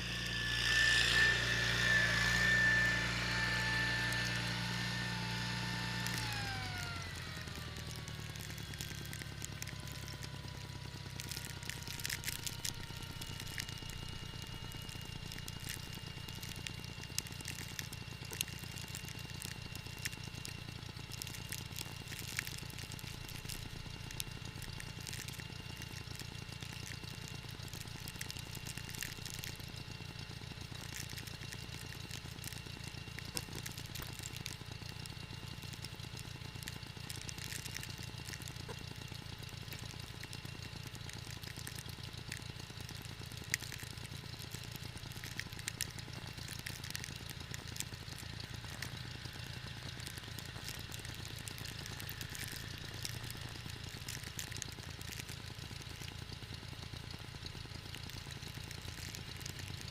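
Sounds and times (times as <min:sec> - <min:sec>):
tractor engine whining: 0:00.0 - 0:59.9.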